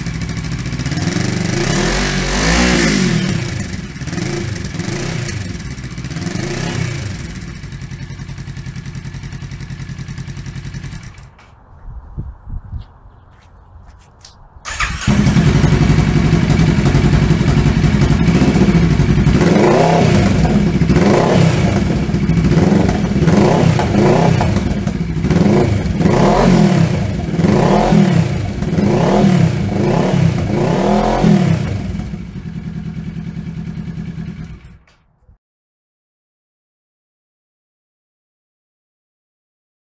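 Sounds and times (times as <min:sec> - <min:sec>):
motorcycle engine idling and revving: 0:00.0 - 0:35.2.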